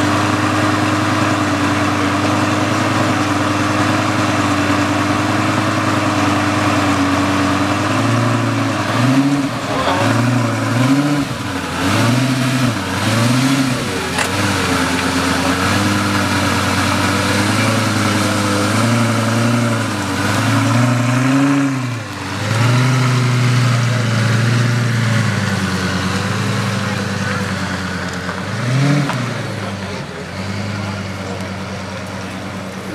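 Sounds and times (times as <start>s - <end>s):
car engine idling with throttle blips: 0.0s - 32.9s.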